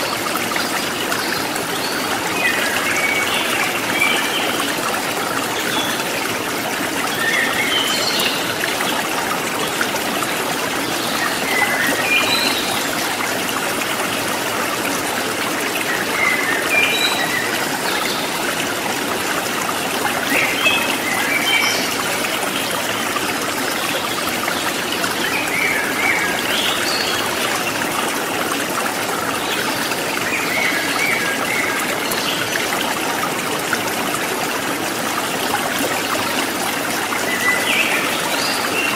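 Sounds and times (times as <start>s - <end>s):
trickling stream water: 0.0s - 38.9s.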